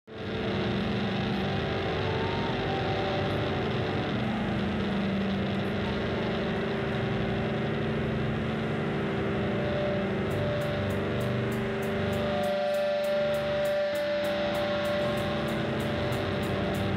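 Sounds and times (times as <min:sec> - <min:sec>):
rock band droning: 0:00.1 - 0:16.9.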